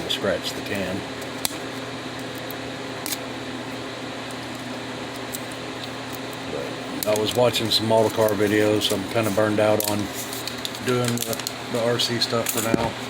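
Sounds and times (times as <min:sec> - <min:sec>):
mechanical room hum: 0:00.0 - 0:13.0.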